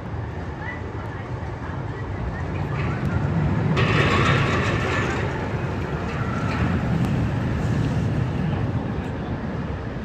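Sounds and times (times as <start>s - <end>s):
roller coaster rumbling on track: 0.1s - 10.0s.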